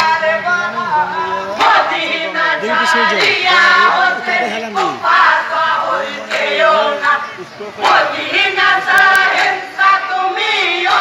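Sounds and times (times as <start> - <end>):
crowd noise: 0.0 - 11.0
men singing a lament: 0.0 - 11.0.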